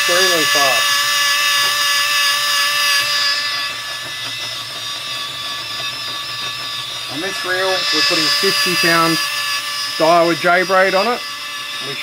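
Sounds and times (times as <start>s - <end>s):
fishing reel motor whine: 0.0s - 12.0s.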